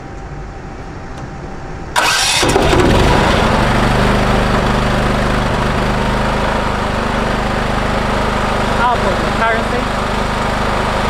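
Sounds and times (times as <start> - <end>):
generator engine starting and running: 0.0 - 11.0.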